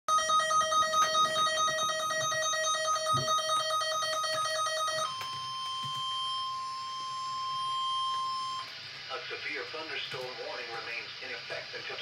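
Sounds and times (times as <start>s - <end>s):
long steady attention tone: 0.1s - 10.0s.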